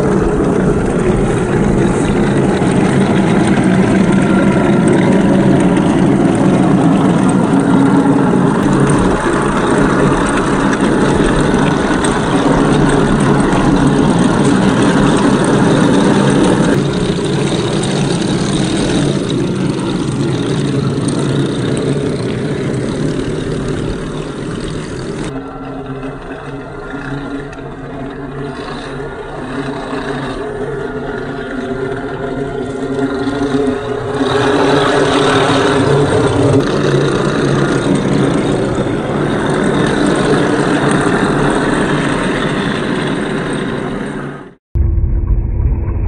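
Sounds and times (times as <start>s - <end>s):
toy tank motor drone: 0.0s - 44.5s.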